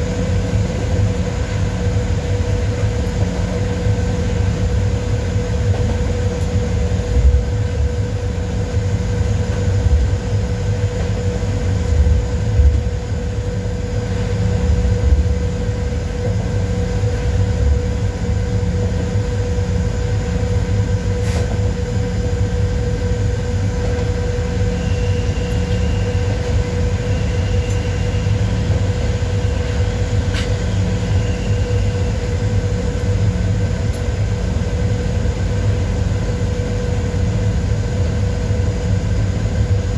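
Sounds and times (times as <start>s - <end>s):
constant hum: 0.0s - 39.9s
locomotive cab rumble: 0.0s - 39.9s.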